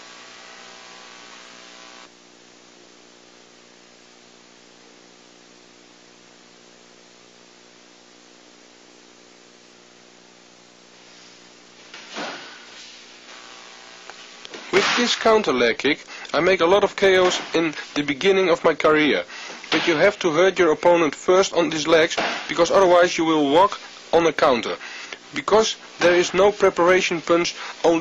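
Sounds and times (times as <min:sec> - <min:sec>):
steady hiss: 0:00.0 - 0:02.2, 0:07.6 - 0:28.0
electrical hum: 0:00.0 - 0:28.0.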